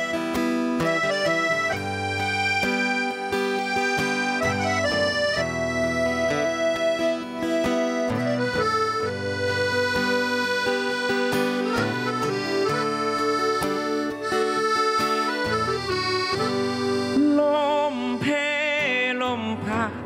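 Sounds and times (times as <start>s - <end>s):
accordion playing a melody: 0.0s - 19.2s
acoustic guitar: 0.0s - 20.0s.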